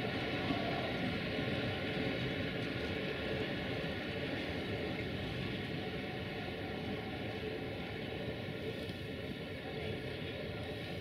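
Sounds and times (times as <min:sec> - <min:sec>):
passenger coaches rolling: 0:00.0 - 0:11.0.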